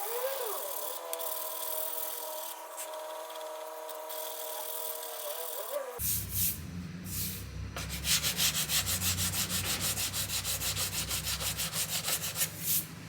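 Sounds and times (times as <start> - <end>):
sandpaper scrubbing painted metal: 0.0 - 6.6, 7.2 - 12.9.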